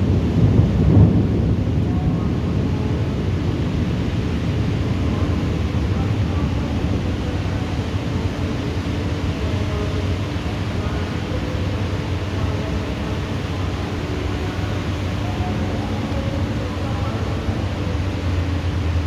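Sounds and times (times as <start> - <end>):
rain falling steadily: 0.0 - 19.0.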